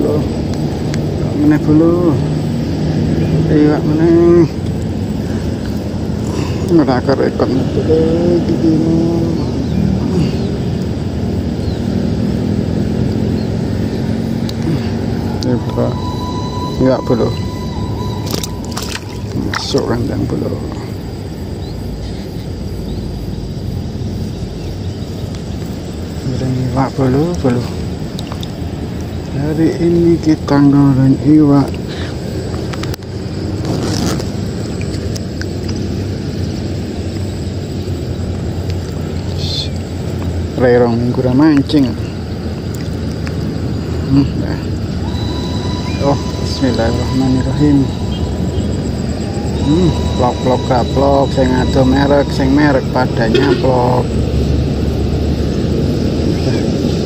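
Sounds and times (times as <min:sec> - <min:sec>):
heavy vehicle engine hum: 0:00.0 - 0:57.0
road traffic rumble: 0:00.0 - 0:57.0.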